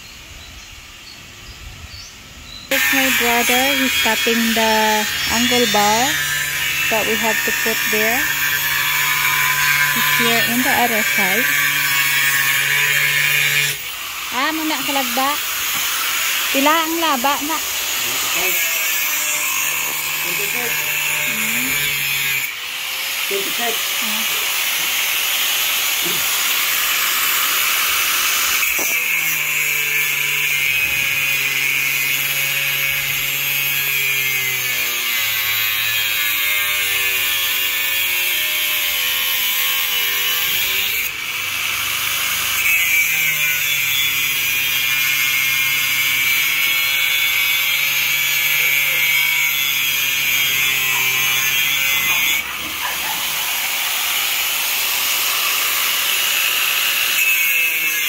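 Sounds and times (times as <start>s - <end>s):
angle grinder cutting steel: 2.7s - 58.0s.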